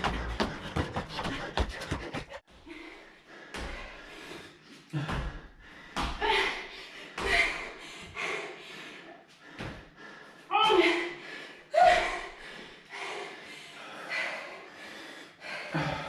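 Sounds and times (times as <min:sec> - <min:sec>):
heavy exertion breathing: 0:00.0 - 0:16.0.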